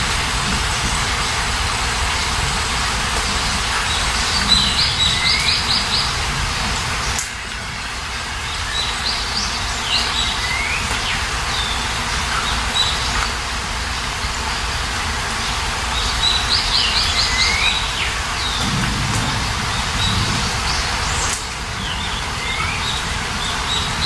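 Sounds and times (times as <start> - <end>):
steady rain hiss: 0.0 - 24.0
songbirds chirping: 0.2 - 24.0.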